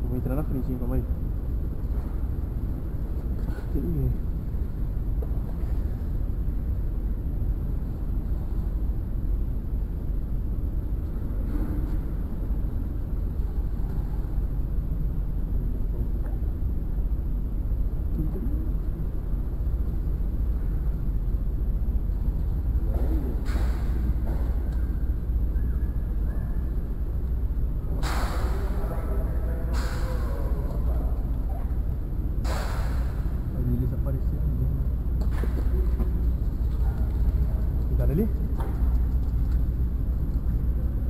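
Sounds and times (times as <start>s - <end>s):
steady low rumble: 0.0s - 41.0s.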